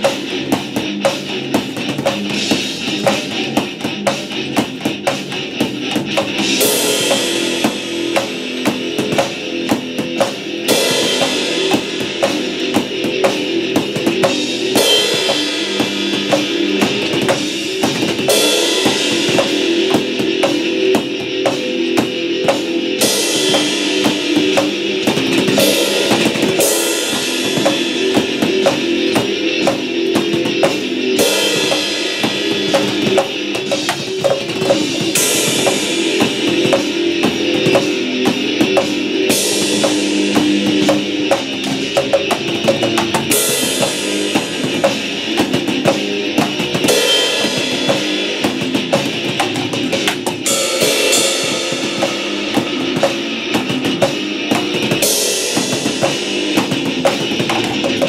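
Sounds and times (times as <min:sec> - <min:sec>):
drum kit rock beat: 0:00.0 - 0:58.0
rock music recording: 0:00.0 - 0:58.0.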